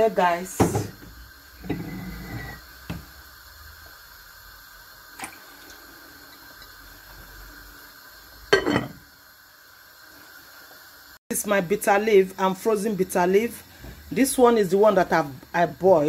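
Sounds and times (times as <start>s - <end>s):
pot cooking with watery hiss: 0.0s - 16.0s.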